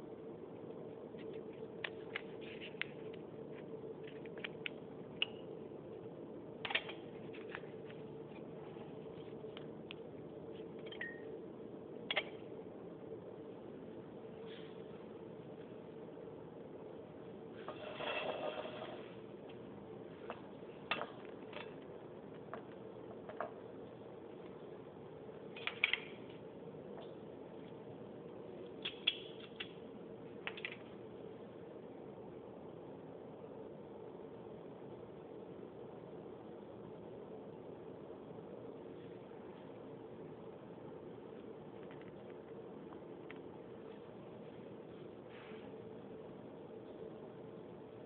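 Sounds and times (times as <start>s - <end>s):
steady background hum: 0.0s - 48.0s
steady low hiss: 0.0s - 48.0s.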